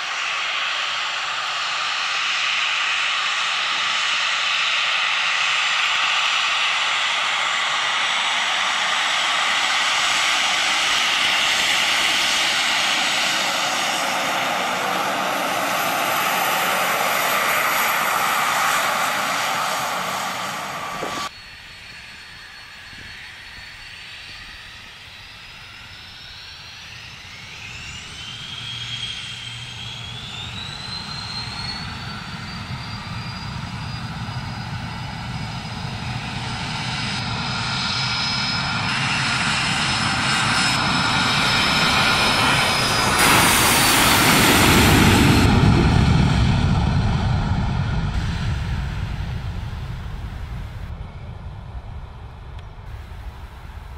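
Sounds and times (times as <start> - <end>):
jet engines running at high power: 0.0 - 53.9
jet engines spooling up whine: 0.0 - 53.9
deep jet rumble: 6.2 - 21.3, 22.0 - 53.9.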